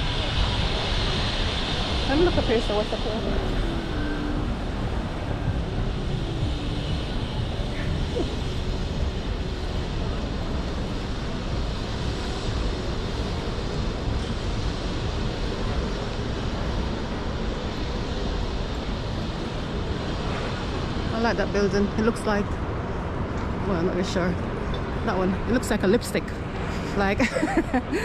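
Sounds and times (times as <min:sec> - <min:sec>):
city noise rumbling: 0:00.0 - 0:28.0.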